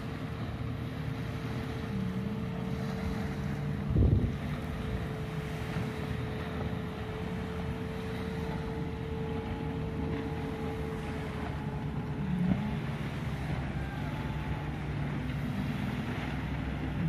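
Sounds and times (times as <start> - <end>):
distant speedboat engine drone: 0.0 - 17.0
wind rumbling on microphone: 1.2 - 17.0.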